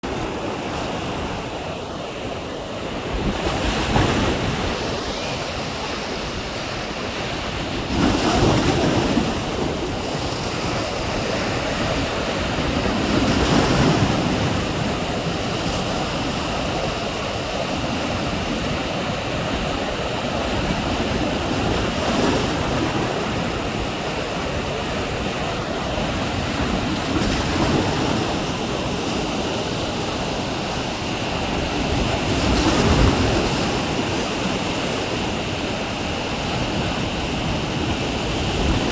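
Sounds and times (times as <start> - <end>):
sea waves roaring: 0.0 - 38.9
wave breaking: 2.7 - 38.9.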